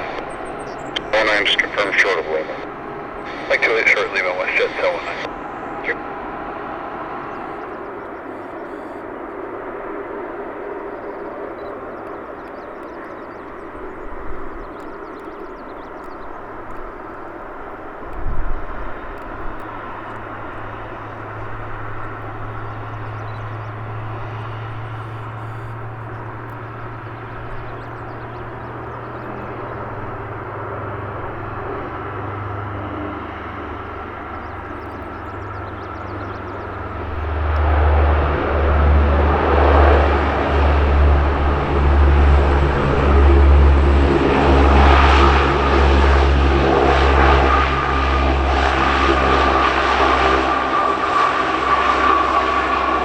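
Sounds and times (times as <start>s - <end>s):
aircraft passing close: 0.0s - 53.0s
airliner engine drone: 0.0s - 53.0s.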